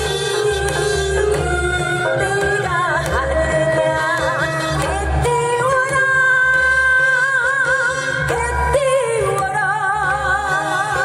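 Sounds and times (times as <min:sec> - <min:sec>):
woman singing with vibrato: 0:00.0 - 0:11.0.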